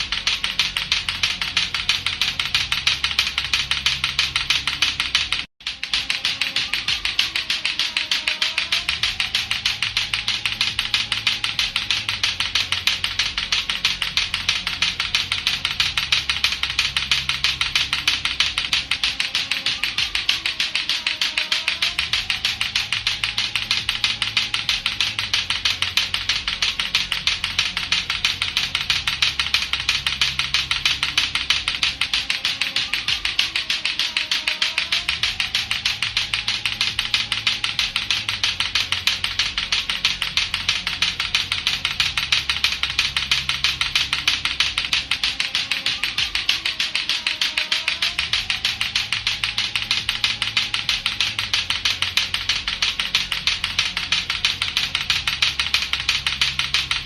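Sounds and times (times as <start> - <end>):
clacker toy balls clacking: 0.0 - 57.0.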